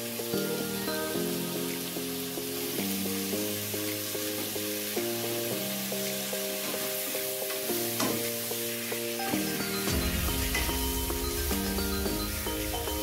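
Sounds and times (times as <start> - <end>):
background music melody: 0.0 - 13.0
chicken sizzling in a wok: 0.0 - 13.0.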